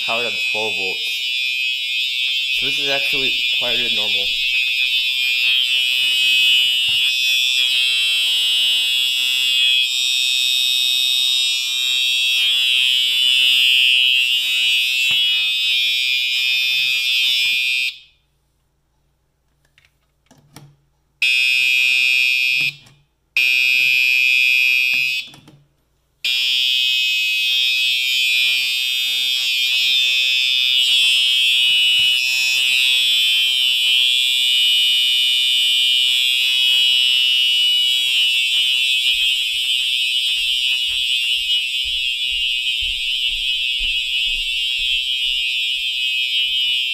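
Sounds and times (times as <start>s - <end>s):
fire alarm horn high-pitched tone: 0.0s - 18.3s, 21.2s - 25.4s, 26.2s - 46.9s.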